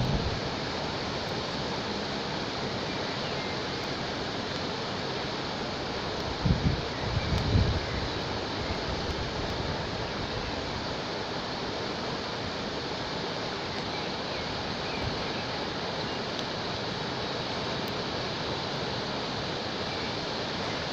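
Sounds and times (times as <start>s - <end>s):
river rushing: 0.0s - 20.9s.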